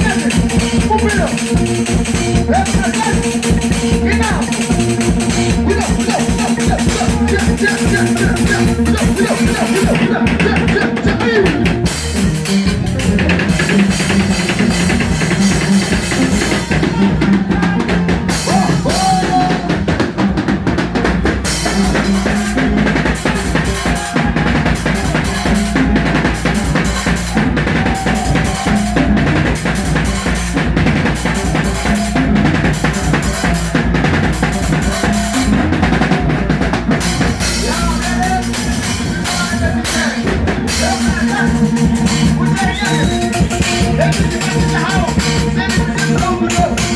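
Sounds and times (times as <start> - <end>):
band music: 0.0 - 46.9
drum kit beat: 0.0 - 46.9.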